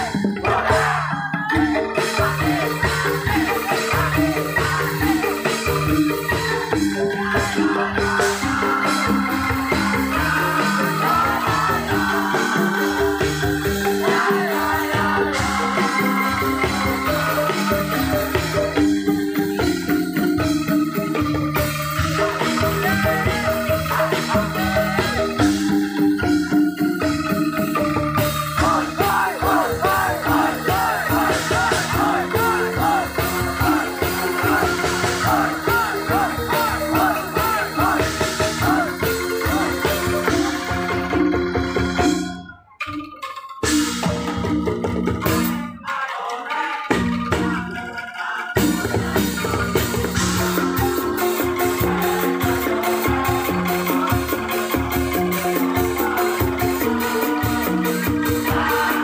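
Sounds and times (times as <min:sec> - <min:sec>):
bamboo percussion ensemble: 0:00.0 - 0:59.0
wavering high melody: 0:00.0 - 0:59.0.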